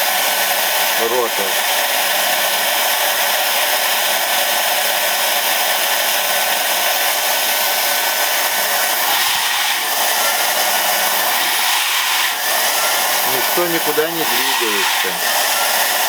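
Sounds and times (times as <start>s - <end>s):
vacuum fan motor whine: 0.0s - 16.0s.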